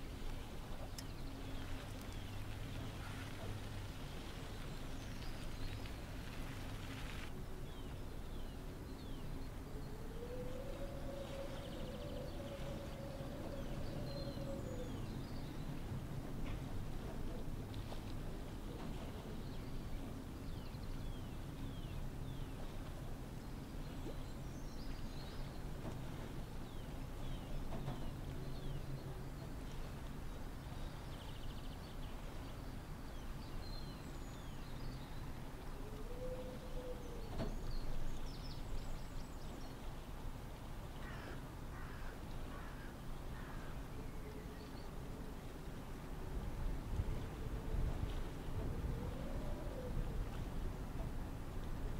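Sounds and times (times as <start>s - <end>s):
low rumble of wind: 0.0s - 51.9s.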